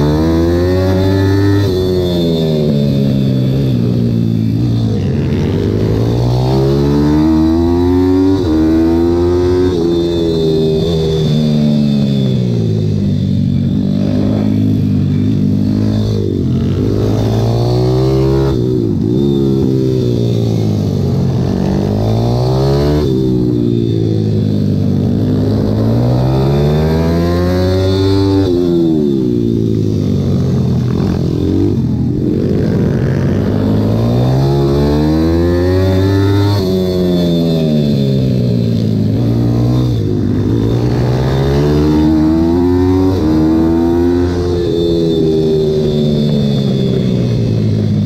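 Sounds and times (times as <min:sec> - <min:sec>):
pit bike engine revving: 0:00.0 - 0:13.0, 0:13.6 - 0:47.9.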